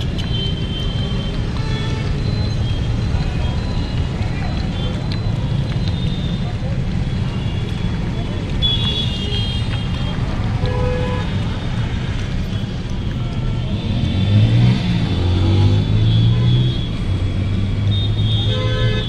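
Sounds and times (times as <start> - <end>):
road rumble: 0.0 - 19.0.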